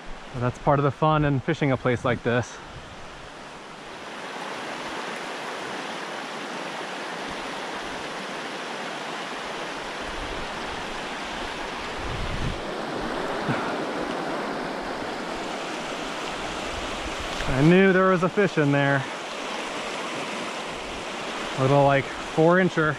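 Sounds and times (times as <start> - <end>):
creek rushing over rocks: 0.0 - 22.9.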